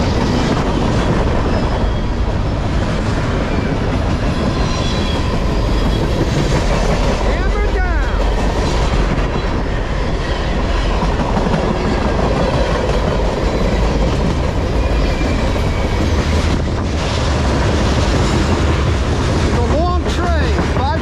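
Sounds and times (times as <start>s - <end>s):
freight train rumble: 0.0s - 21.0s
steel wheels clattering on rails: 0.0s - 21.0s.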